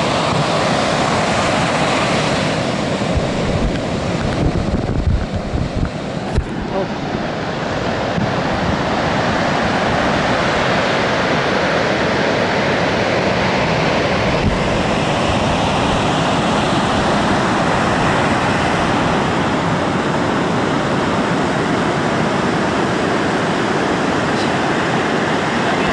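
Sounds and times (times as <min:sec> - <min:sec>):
surf breaking on beach: 0:00.0 - 0:25.9
wind rumbling on microphone: 0:00.0 - 0:25.9.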